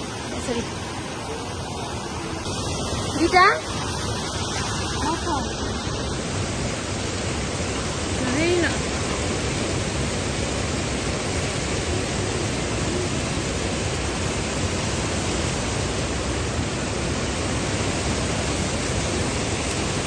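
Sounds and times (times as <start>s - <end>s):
water rushing in shallow stream: 0.0s - 20.0s.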